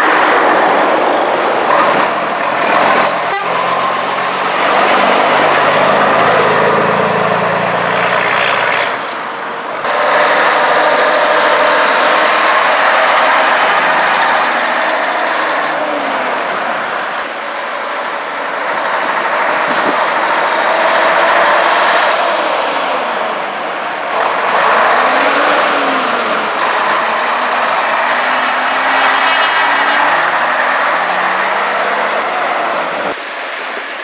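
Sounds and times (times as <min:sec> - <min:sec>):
trucks driving past: 0:00.0 - 0:34.0.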